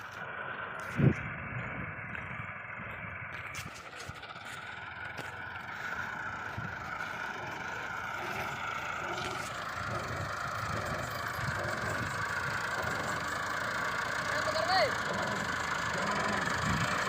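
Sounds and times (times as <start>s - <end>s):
farm machinery engine whining: 0.0s - 17.0s.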